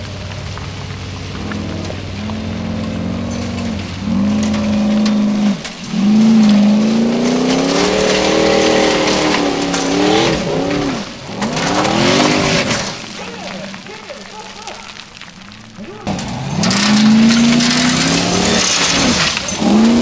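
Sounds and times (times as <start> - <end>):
buggy engine revving hard: 0.0 - 13.1, 16.0 - 20.0
gravel and stones clattering: 0.0 - 20.0.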